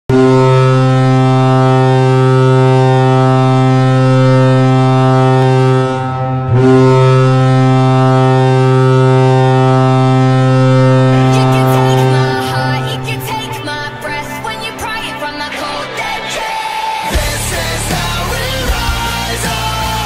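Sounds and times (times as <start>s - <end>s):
goal horn blaring: 0.1s - 16.4s.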